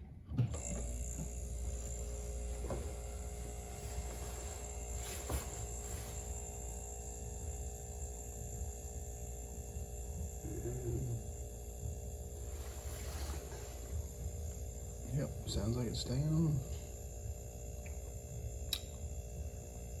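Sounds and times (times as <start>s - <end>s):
freezer compressor humming: 0.0s - 20.0s.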